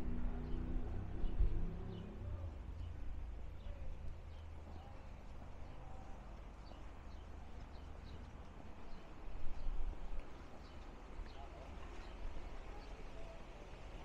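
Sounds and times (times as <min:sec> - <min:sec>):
low outdoor rumble: 0:00.0 - 0:14.0
small birds chirping: 0:00.4 - 0:13.4.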